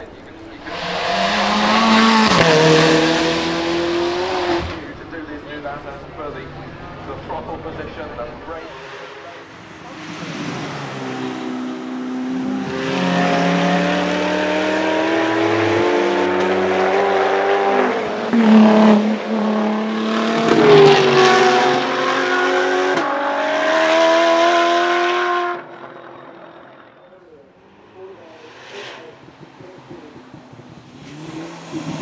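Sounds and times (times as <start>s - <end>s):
car engines accelerating hard: 0.0s - 32.0s.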